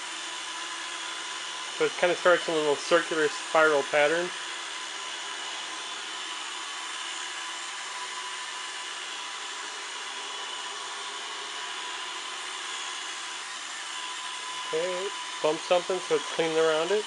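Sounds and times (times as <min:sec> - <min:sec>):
robot vacuum running: 0:00.0 - 0:17.0.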